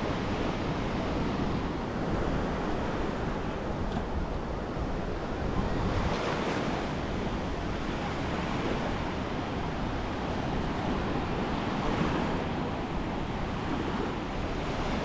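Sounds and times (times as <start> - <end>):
small waves breaking on sand: 0.0 - 15.0
wind on microphone: 0.0 - 15.0.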